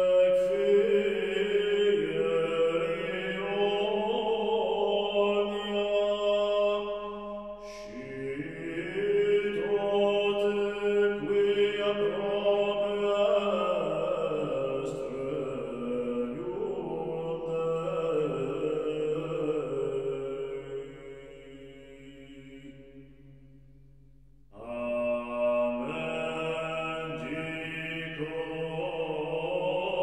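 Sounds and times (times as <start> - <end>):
slow sung chant: 0.0 - 30.0.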